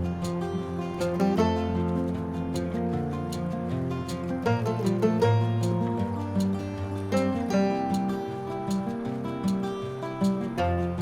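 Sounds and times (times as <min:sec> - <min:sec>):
acoustic guitar music: 0:00.0 - 0:11.0
light beat: 0:00.0 - 0:11.0.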